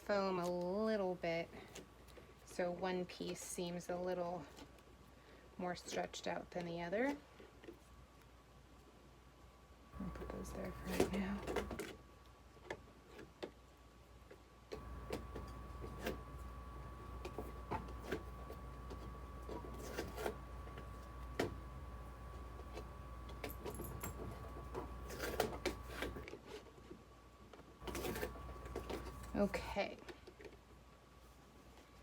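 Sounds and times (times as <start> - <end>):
faint hum with thin whine: 0.0 - 32.0.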